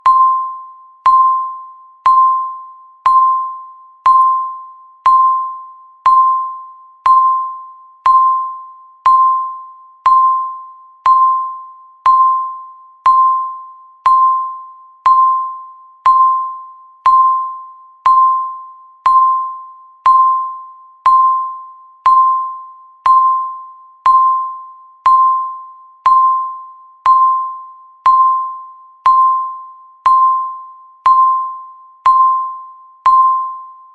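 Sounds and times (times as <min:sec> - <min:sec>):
bell-like ding: 0:00.0 - 0:33.9.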